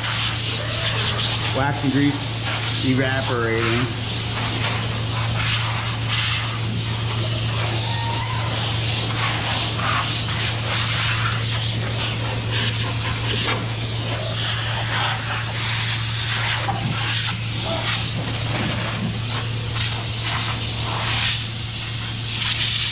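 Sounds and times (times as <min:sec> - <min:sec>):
air blow gun hissing: 0:00.0 - 0:22.9
steady low hum: 0:00.0 - 0:22.9.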